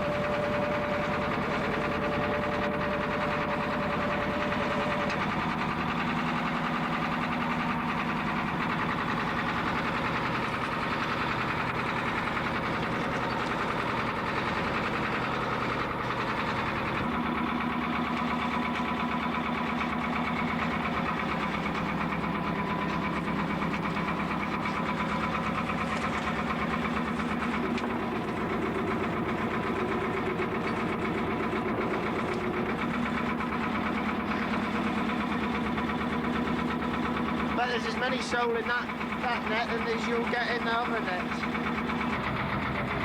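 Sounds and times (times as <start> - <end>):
boat engine running at low revs: 0.0 - 43.0.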